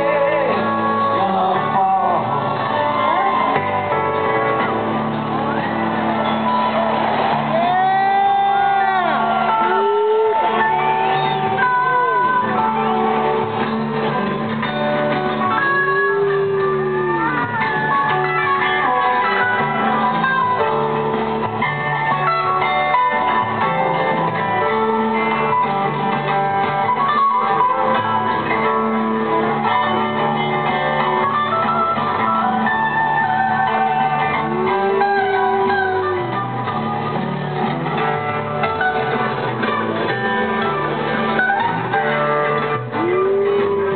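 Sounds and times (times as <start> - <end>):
lead guitar bending notes: 0.0 - 43.9
rock band playing live: 0.0 - 43.9.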